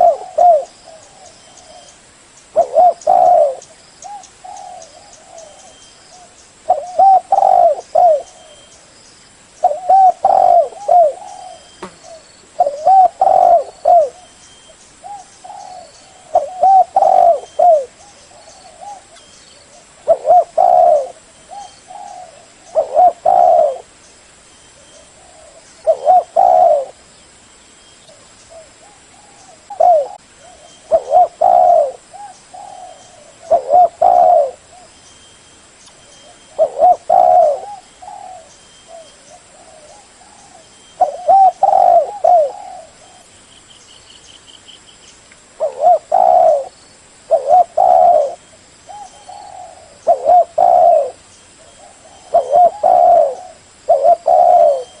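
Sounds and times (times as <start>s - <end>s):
dove cooing: 0.0s - 8.7s, 9.6s - 14.3s, 15.0s - 23.9s, 24.8s - 27.0s, 28.1s - 34.9s, 36.2s - 43.3s, 45.6s - 46.7s, 47.3s - 55.0s.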